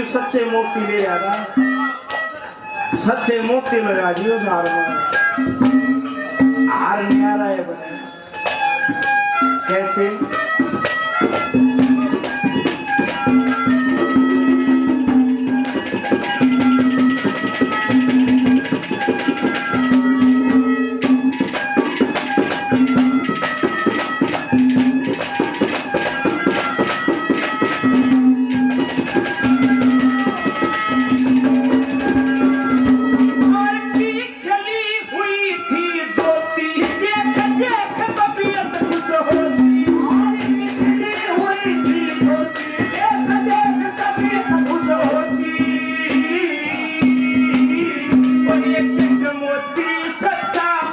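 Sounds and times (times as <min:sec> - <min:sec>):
hand drums beating: 0:00.0 - 0:34.3, 0:36.2 - 0:50.9
folk melody instrument: 0:00.0 - 0:50.9.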